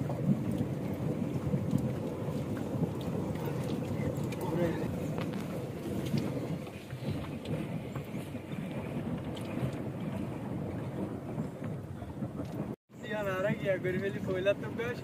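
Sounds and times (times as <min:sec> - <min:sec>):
boat engine low rumble: 0:00.0 - 0:15.0
water noise: 0:00.0 - 0:15.0.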